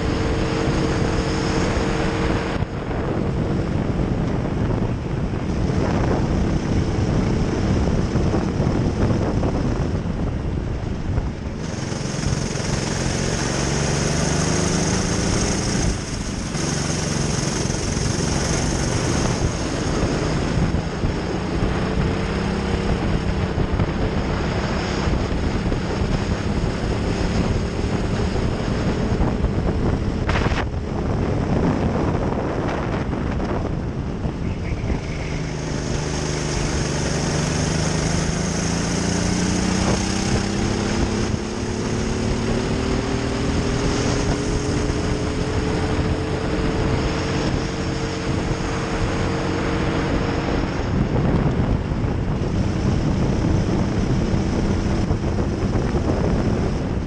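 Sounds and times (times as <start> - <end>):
kart engine at full throttle: 0.0 - 57.0.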